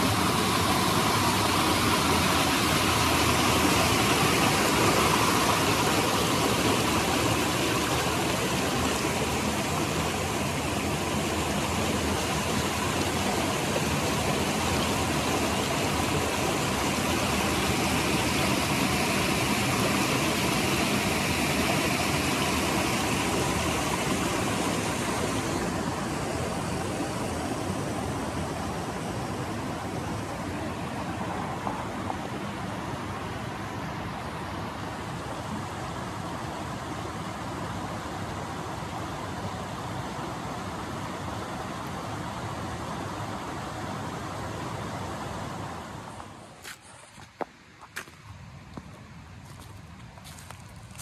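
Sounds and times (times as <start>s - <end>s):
creek rushing over rocks: 0.0s - 51.0s.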